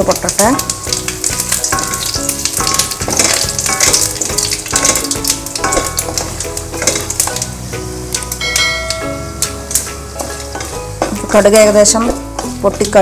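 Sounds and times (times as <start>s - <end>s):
spatula stirring in pan: 0.0s - 8.8s, 9.4s - 13.0s
mustard seeds popping in oil: 0.0s - 13.0s.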